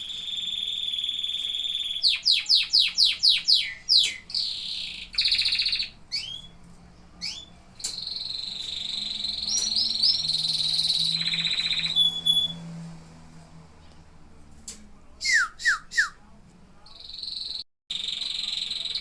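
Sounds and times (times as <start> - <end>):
canary singing: 0.0 - 12.9, 15.2 - 19.0.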